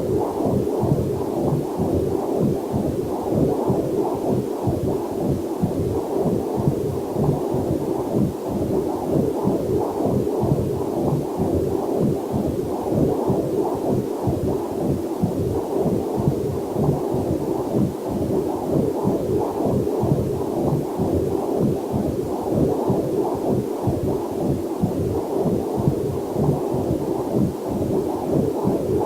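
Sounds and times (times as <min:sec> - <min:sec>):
doppler heartbeat whooshing pulses: 0:00.0 - 0:29.0.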